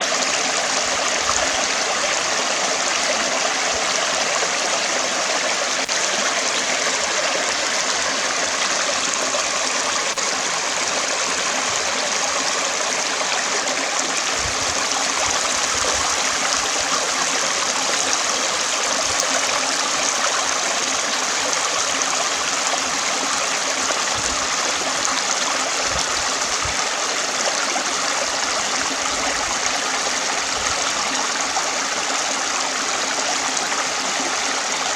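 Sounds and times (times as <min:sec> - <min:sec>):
stream of running water: 0:00.0 - 0:34.9.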